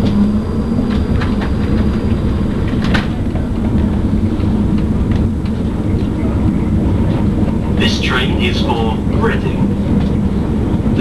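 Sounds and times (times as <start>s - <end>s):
train rumble and hum: 0.0s - 11.0s.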